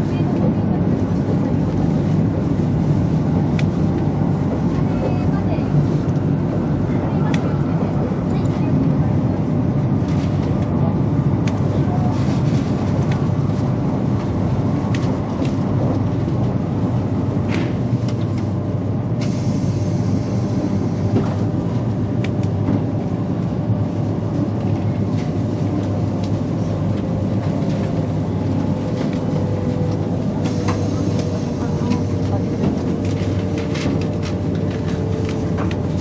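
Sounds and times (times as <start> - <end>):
train wheels rumbling: 0.0 - 36.0.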